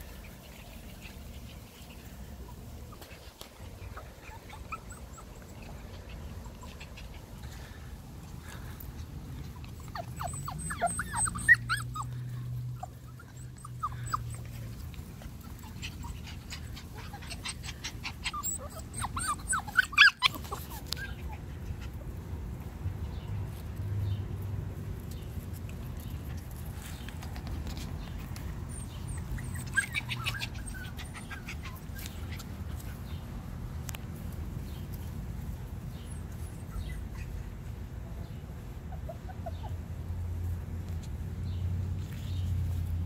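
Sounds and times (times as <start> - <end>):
puppies yipping and whimpering: 0.0 - 22.7, 25.5 - 33.3, 35.8 - 39.9.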